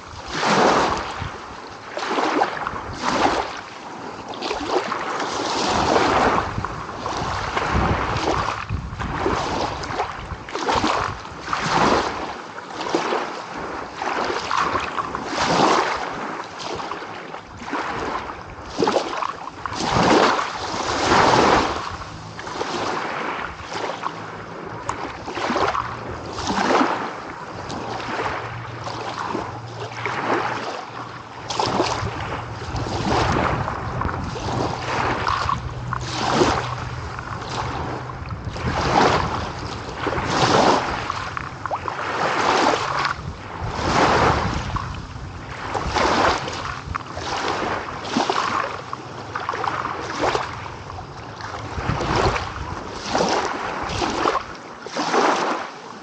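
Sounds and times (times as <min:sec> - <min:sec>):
small sea waves breaking: 0:00.0 - 0:56.0.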